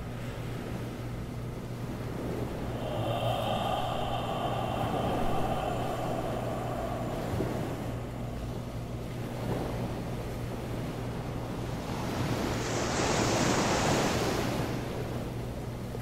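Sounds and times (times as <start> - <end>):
low steady hum: 0.0 - 16.0
ocean waves washing in: 0.0 - 16.0.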